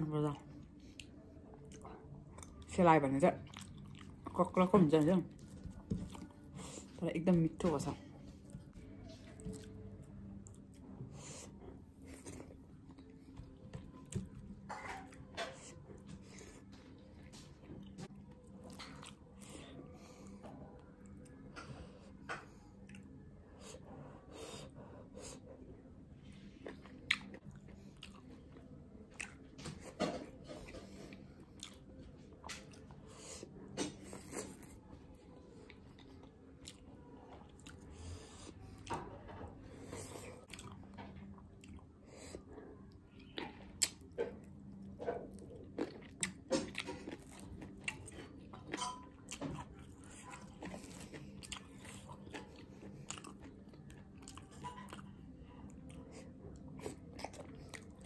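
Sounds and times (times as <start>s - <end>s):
chewing: 3.3s - 4.6s, 5.2s - 7.0s, 8.4s - 25.4s, 26.5s - 58.0s.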